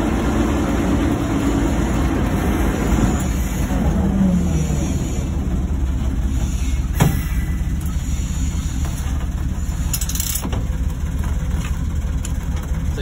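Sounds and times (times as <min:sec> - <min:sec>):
diesel locomotive engine throbbing: 0:00.0 - 0:13.0.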